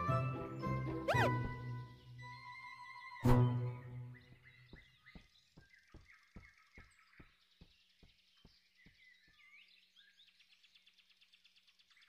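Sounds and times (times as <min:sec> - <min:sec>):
birds chirping: 0:00.4 - 0:12.0.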